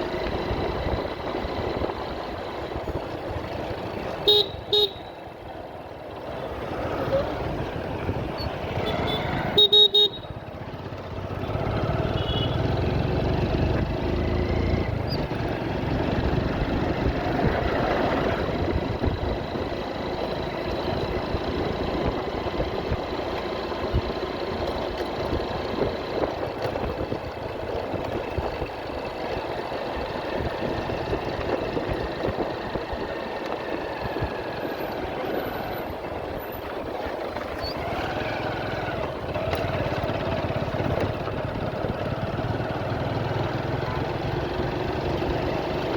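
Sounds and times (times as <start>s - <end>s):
motorcycle engine running: 0.0s - 45.9s
road noise: 0.0s - 45.9s.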